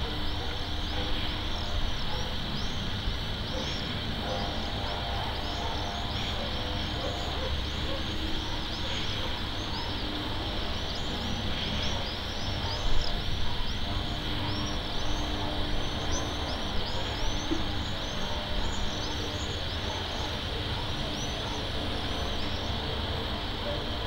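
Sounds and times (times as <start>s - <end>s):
constant high hiss: 0.0s - 24.0s
small birds chirping: 0.0s - 24.0s
steady low rumble: 0.0s - 24.0s.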